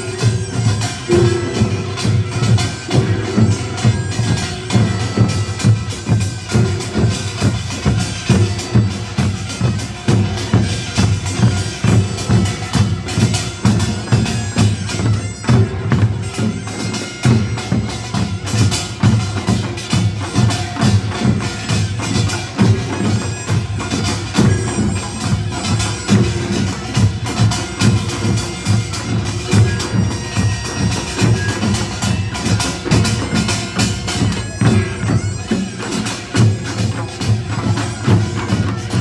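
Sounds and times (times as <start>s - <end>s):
drums beating fast rhythm: 0.0s - 39.0s.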